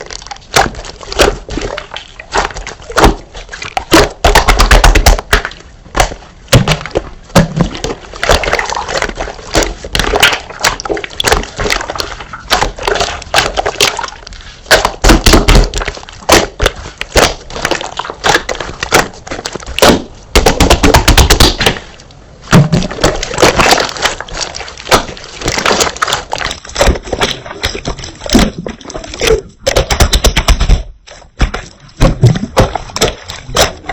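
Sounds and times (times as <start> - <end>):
slime squished by hand: 0.0 - 33.9.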